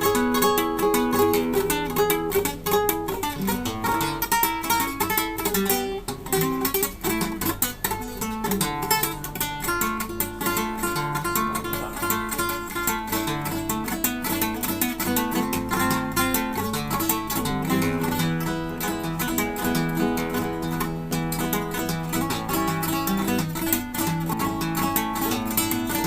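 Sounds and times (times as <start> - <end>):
solo acoustic guitar: 0.0 - 26.0.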